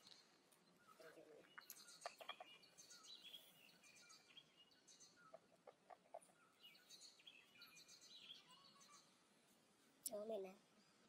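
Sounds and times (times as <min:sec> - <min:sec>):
faint small bird chirping: 0:00.0 - 0:11.0.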